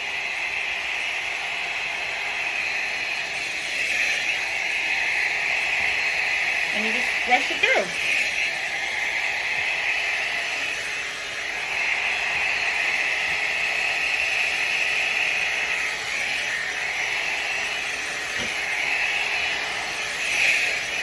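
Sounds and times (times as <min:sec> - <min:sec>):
hair dryer brush blowing: 0:00.0 - 0:21.0.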